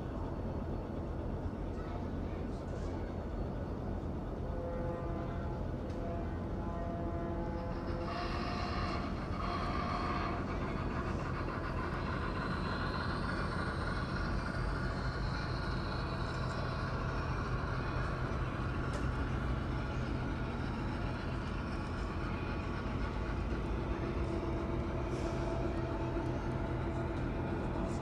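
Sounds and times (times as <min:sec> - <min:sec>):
model train rumble: 0:00.0 - 0:28.0
train engine hum: 0:00.0 - 0:28.0.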